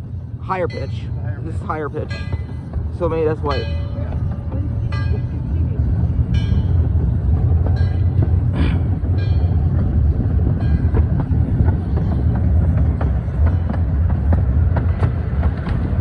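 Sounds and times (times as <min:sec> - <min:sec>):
train cars rumbling on track: 0:00.0 - 0:16.0
wheels clicking on rails: 0:00.0 - 0:16.0.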